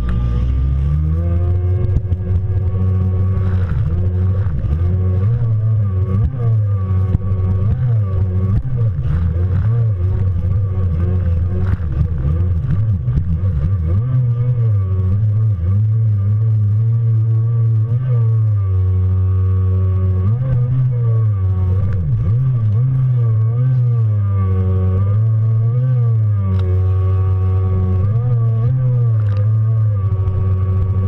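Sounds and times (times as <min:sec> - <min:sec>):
jet ski engine revving: 0:00.0 - 0:31.0.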